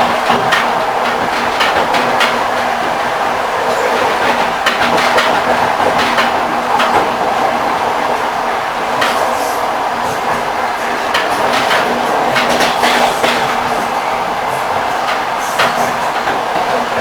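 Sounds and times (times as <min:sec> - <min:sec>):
train rumble: 0:00.0 - 0:17.0
train wheels clacking over rail joints: 0:00.0 - 0:17.0.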